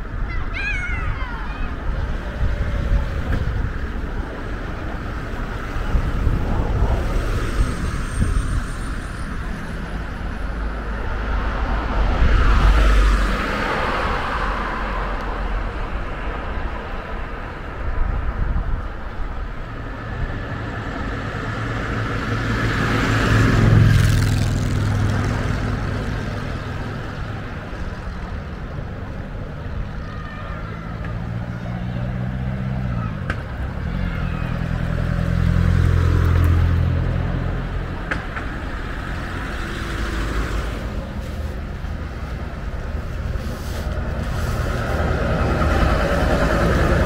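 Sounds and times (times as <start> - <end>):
steady traffic rumble: 0.0 - 47.0
vehicles passing: 0.0 - 47.0.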